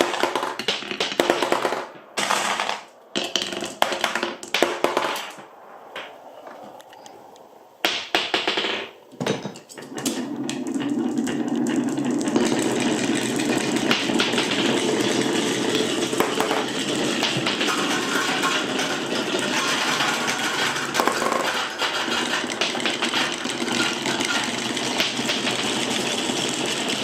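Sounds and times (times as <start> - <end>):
marbles clicking on marble run: 0.0 - 5.4, 9.7 - 27.0
marbles rolling along track: 0.0 - 27.0.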